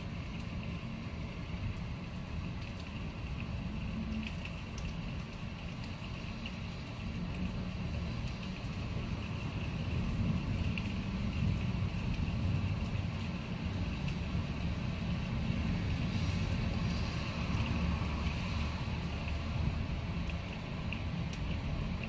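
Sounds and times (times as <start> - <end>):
rain: 0.0 - 22.0
wind: 0.0 - 22.0
faint ticks: 1.6 - 14.4, 16.2 - 22.0.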